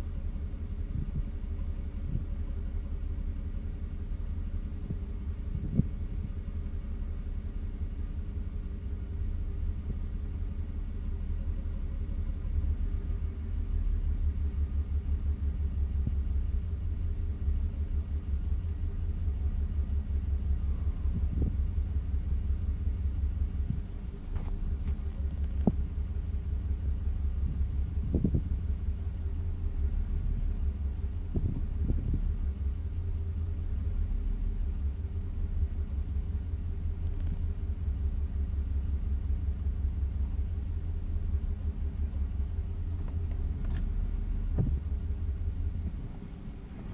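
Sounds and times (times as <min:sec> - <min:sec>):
car engine idling rough: 0:00.0 - 0:46.9.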